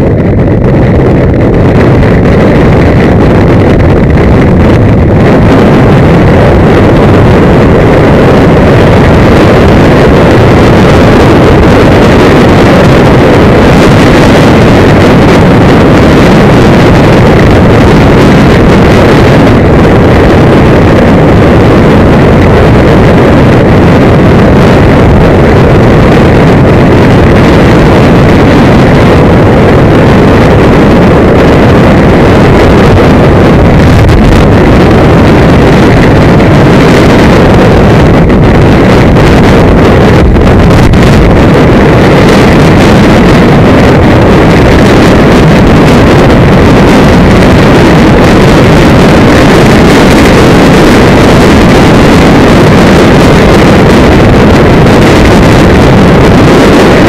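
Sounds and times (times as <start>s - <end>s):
wind roar on microphone: 0.0s - 57.0s.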